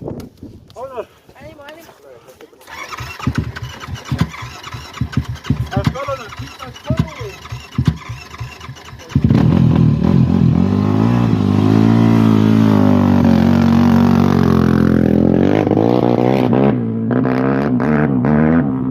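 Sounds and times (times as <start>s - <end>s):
atv engine revving: 2.6s - 18.9s.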